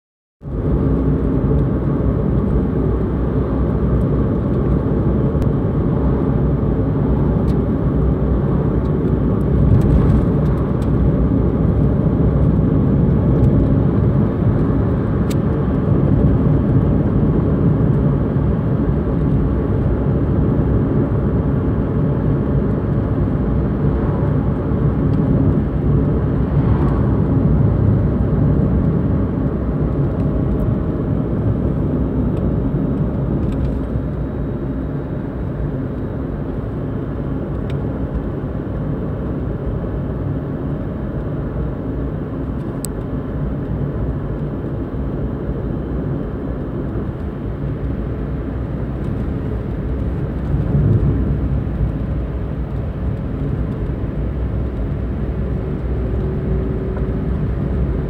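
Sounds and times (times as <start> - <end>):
car engine rumble from inside: 0.4 - 58.0.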